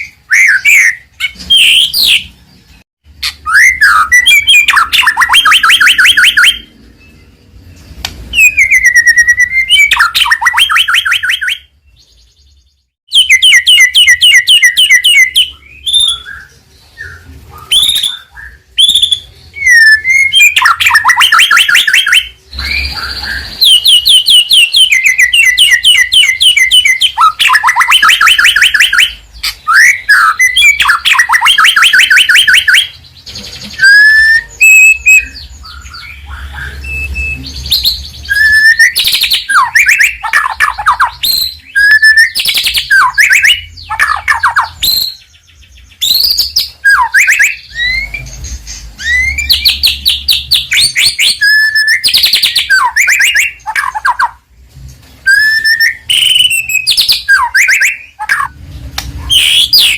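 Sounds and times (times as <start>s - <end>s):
bird singing whistled trills: 0.0s - 54.4s, 55.2s - 58.6s, 59.2s - 59.9s.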